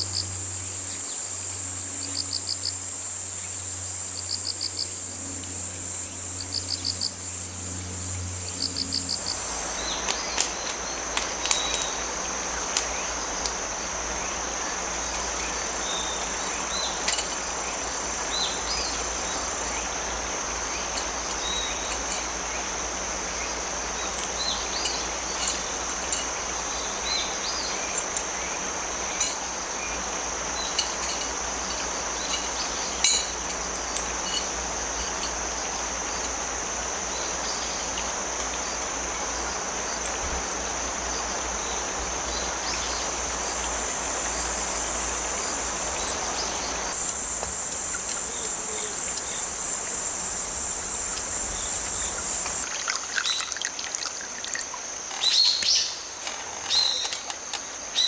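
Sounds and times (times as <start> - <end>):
insects trilling: 0.0 - 58.0
pulsing cricket chirp: 0.0 - 58.0
rushing creek: 8.7 - 55.4.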